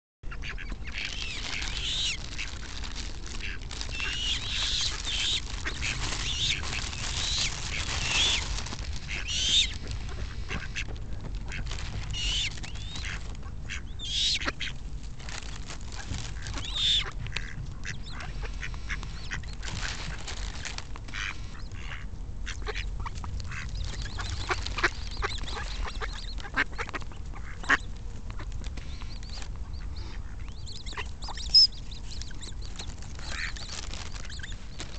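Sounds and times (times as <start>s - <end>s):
steady low rumble: 0.2s - 34.9s
coots calling: 0.3s - 20.2s, 21.1s - 34.9s
ducks quacking: 0.3s - 20.3s, 21.1s - 34.6s.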